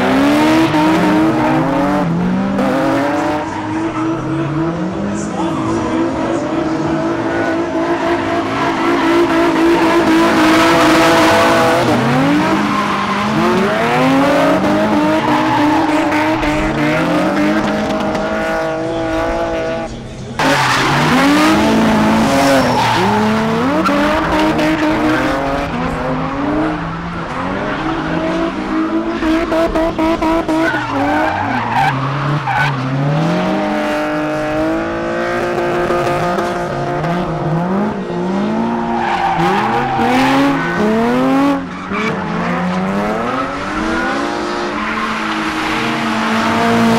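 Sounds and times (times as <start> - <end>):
tyres squealing and skidding: 0.0 - 34.4, 36.2 - 46.9
car engines revving: 0.0 - 46.9.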